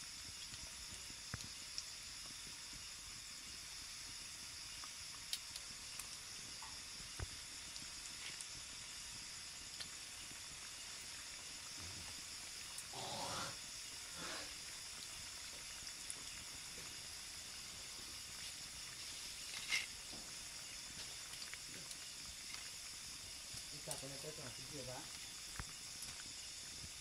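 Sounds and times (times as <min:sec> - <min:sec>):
dough deep-frying sizzle: 0:00.0 - 0:27.0.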